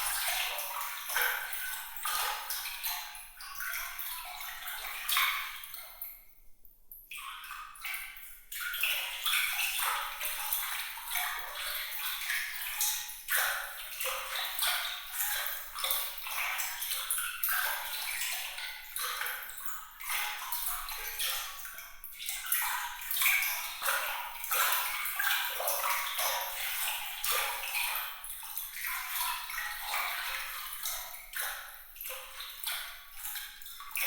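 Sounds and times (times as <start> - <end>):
water trickling and splashing: 0.0 - 6.3, 7.1 - 34.0.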